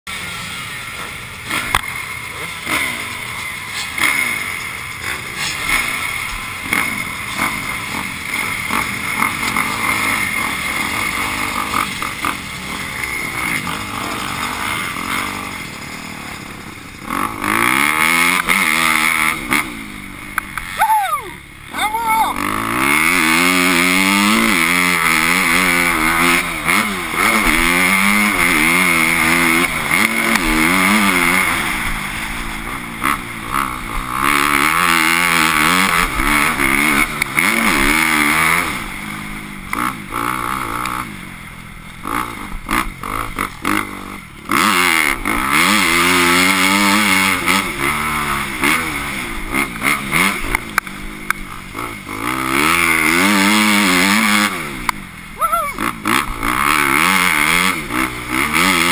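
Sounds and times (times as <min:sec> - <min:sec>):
motocross bike engine revving: 0:00.1 - 0:58.9.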